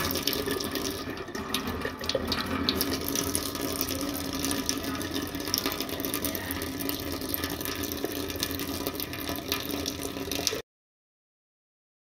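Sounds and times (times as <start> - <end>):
tap water running into sink: 0.0 - 10.6.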